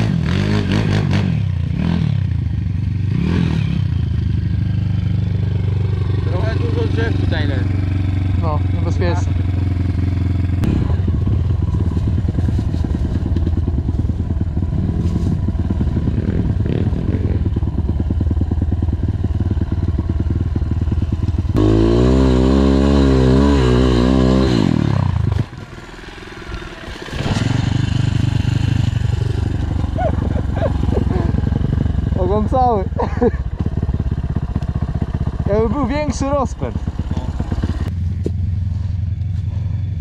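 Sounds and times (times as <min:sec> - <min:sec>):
pit bike engine revving: 0:00.0 - 0:40.0.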